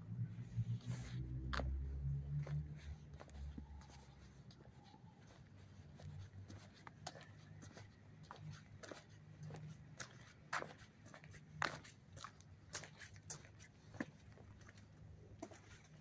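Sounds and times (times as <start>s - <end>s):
footsteps on concrete: 0.7s - 16.0s.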